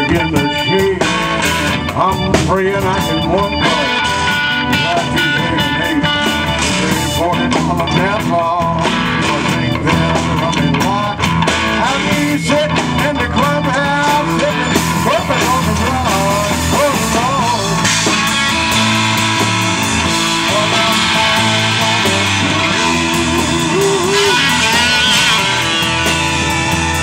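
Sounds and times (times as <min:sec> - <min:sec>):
blues-rock band playing: 0:00.0 - 0:27.0.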